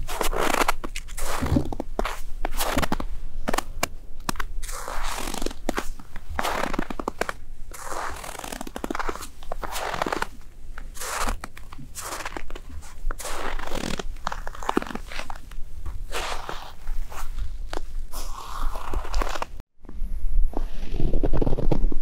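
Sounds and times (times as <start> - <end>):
boots crunching on frozen snow: 0.0 - 3.7, 4.3 - 19.6.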